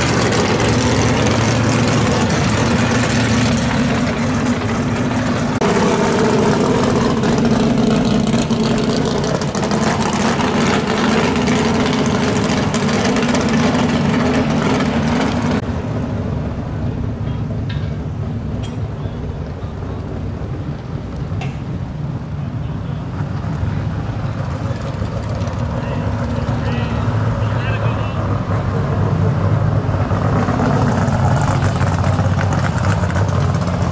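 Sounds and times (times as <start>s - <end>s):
loud race car engines idling: 0.0s - 33.9s.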